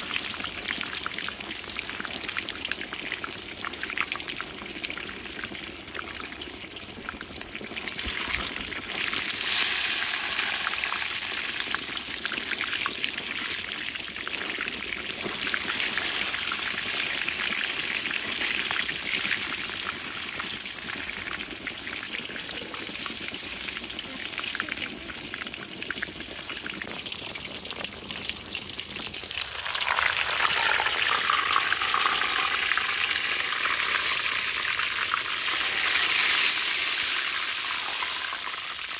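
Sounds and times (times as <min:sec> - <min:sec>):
oil deep-frying sizzle: 0:00.0 - 0:38.9.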